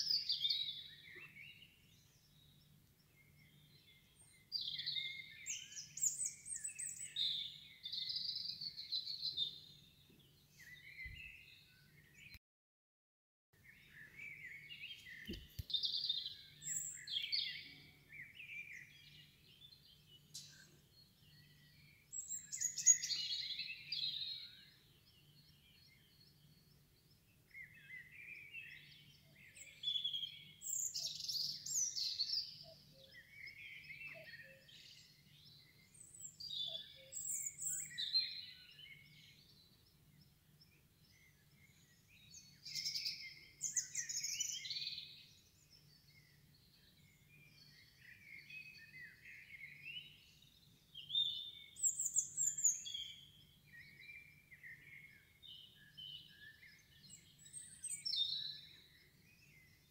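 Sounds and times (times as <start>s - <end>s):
small birds chirping: 0.0s - 12.4s, 13.6s - 59.9s.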